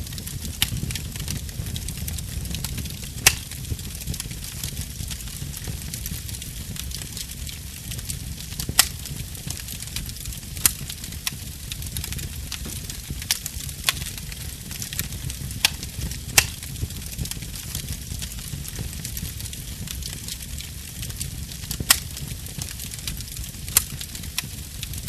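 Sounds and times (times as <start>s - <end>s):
campfire hissing and rumbling: 0.0s - 25.0s
campfire pops: 0.0s - 25.0s.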